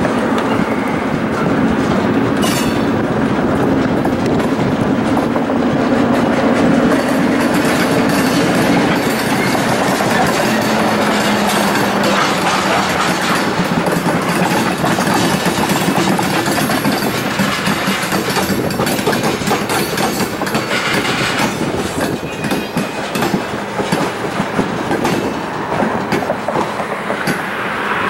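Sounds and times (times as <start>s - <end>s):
train wheels clicking over rail joints: 0.0s - 28.0s.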